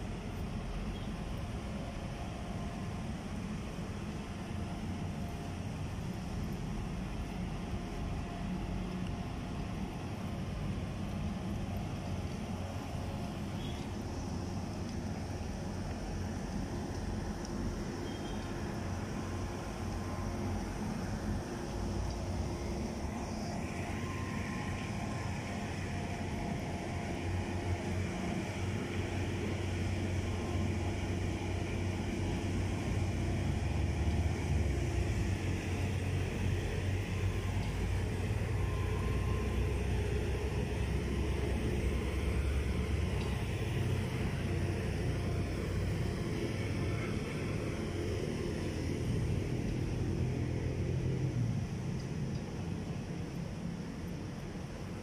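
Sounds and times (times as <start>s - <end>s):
faint engine hum: 0.0s - 55.0s.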